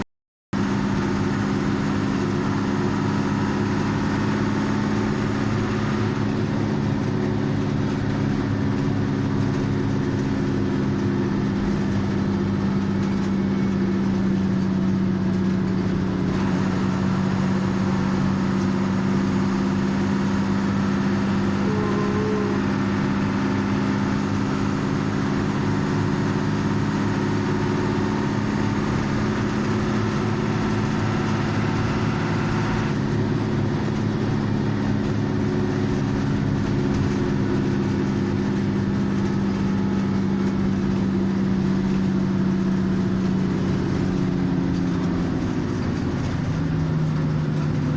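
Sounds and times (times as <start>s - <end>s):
bus engine humming: 0.6s - 47.9s.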